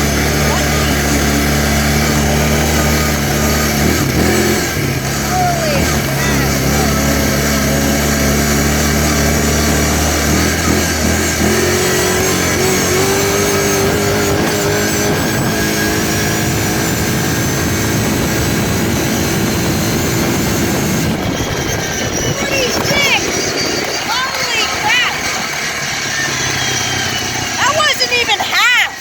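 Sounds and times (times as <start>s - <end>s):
atv engine running hard: 0.0s - 29.0s.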